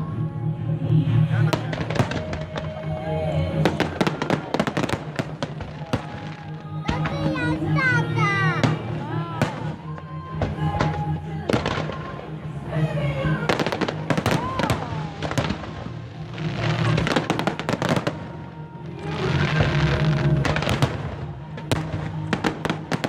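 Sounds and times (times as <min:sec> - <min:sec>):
music playing: 0:00.0 - 0:23.0
fireworks bursting and crackling: 0:01.4 - 0:23.0.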